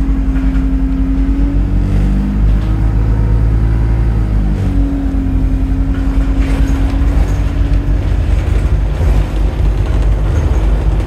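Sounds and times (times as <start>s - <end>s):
bus engine rumbling: 0.0s - 11.0s
steady hum: 0.0s - 11.0s.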